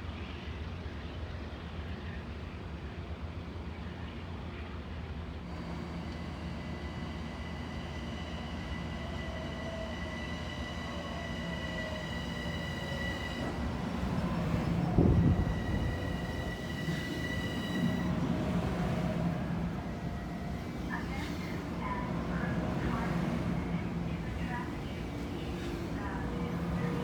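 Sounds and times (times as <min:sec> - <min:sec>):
train rumble: 0:00.7 - 0:27.0.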